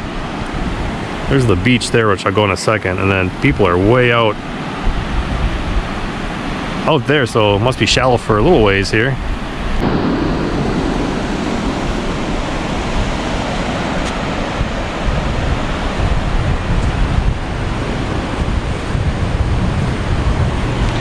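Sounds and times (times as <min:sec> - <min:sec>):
waves washing on shore: 0:00.0 - 0:21.0
wind buffeting microphone: 0:00.0 - 0:21.0.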